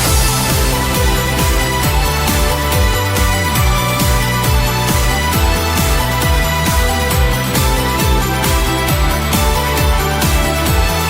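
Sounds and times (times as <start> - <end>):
deep kick drum: 0.0 - 11.0.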